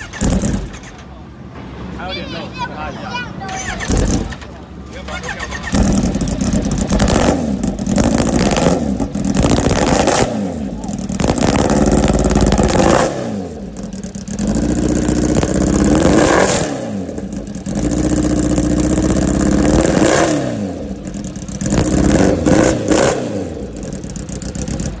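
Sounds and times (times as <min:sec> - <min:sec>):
motorcycle engine revving hard: 0:00.0 - 0:00.9, 0:03.6 - 0:04.6, 0:05.2 - 0:25.0.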